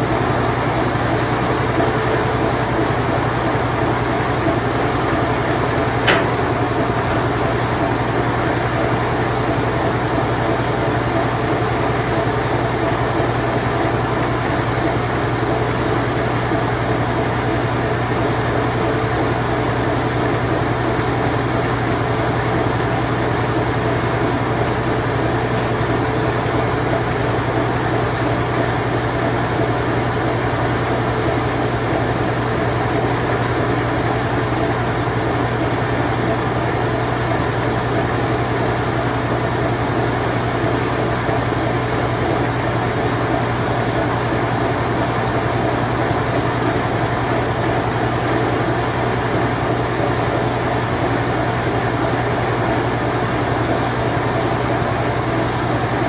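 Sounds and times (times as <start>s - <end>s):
washing machine spin cycle: 0.0s - 56.0s.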